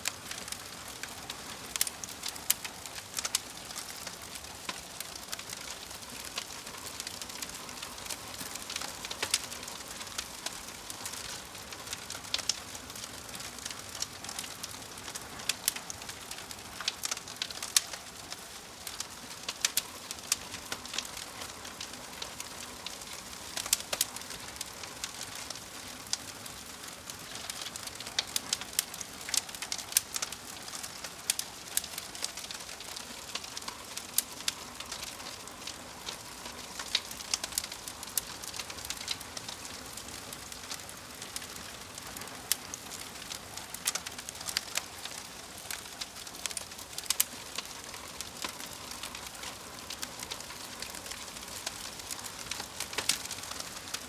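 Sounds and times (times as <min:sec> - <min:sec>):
fire soft hiss: 0:00.0 - 0:54.0
logs crackling and popping: 0:00.0 - 0:54.0.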